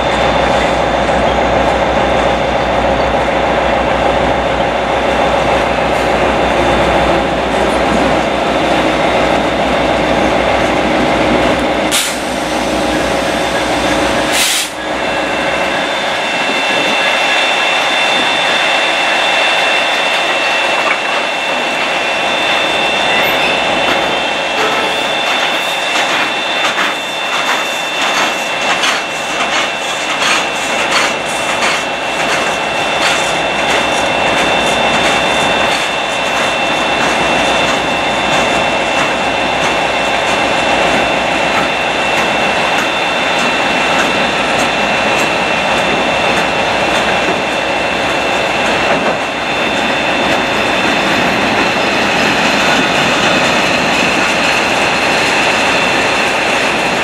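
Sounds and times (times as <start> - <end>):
train rumble and rush: 0.0 - 57.0.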